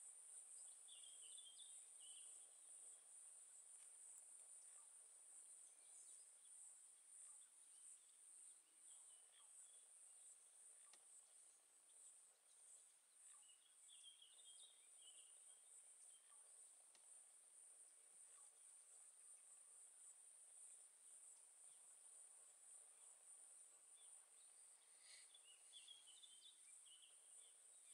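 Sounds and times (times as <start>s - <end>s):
faint bird chirps: 0.0s - 27.9s.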